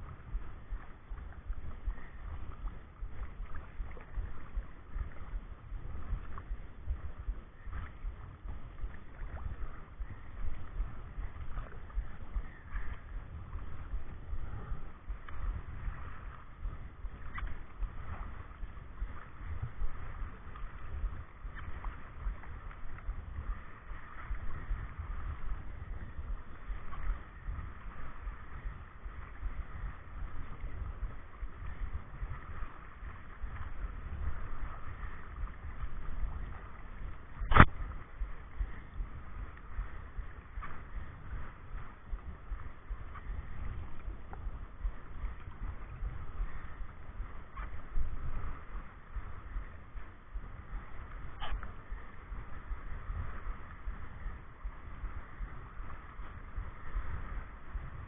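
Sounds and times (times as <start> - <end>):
rushing water: 0.0 - 58.0
wind buffeting microphone: 0.0 - 58.0.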